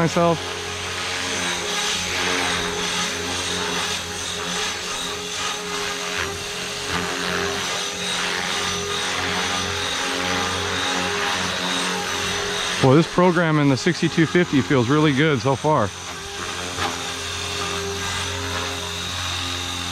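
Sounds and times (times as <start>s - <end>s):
rc helicopter droning with whine: 0.0s - 19.9s.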